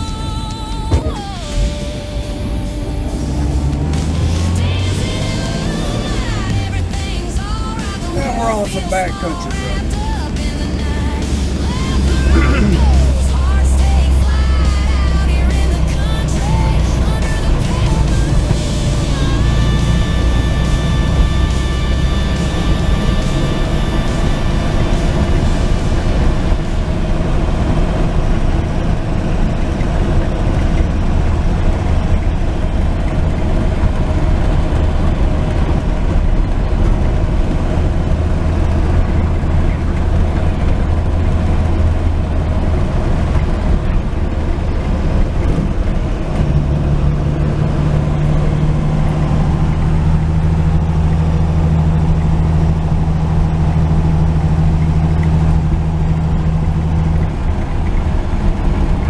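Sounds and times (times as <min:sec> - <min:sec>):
higher-pitched steady hum: 0:00.0 - 0:59.0
road noise: 0:00.0 - 0:59.0
truck engine running: 0:00.0 - 0:59.0.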